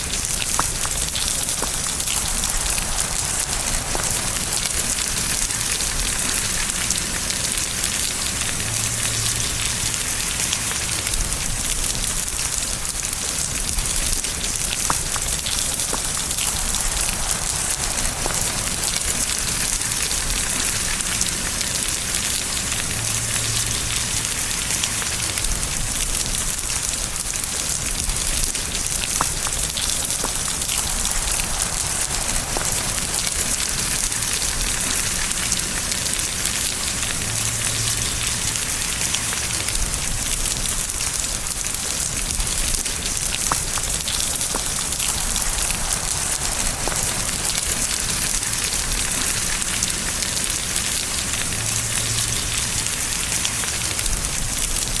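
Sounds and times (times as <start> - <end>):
raindrop ticks: 0.0 - 55.0
steady rain hiss: 0.0 - 55.0.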